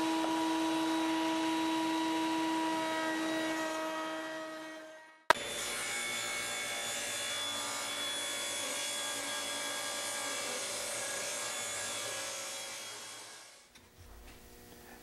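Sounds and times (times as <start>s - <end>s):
table saw cutting wood: 0.0s - 13.7s.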